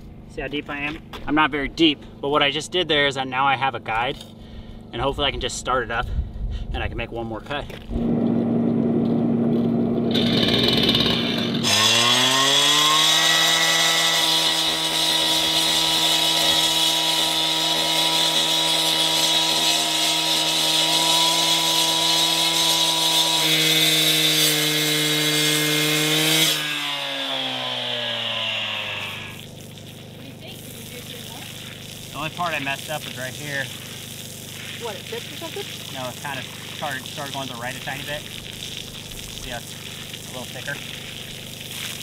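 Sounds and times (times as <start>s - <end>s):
cut-off saw cutting concrete: 7.9s - 42.0s.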